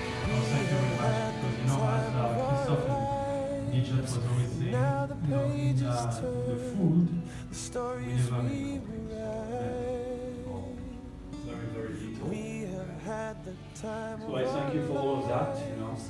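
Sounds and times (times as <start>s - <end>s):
person singing: 0.0s - 11.3s, 12.0s - 16.0s
guitar accompaniment: 0.0s - 16.0s.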